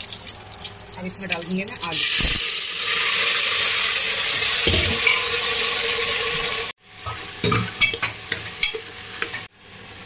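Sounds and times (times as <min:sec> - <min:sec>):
potatoes sizzling in oil: 0:01.8 - 0:10.0.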